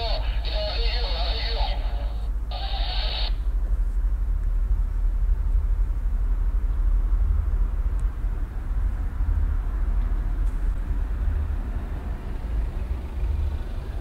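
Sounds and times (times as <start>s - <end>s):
low urban rumble: 0.0s - 14.0s.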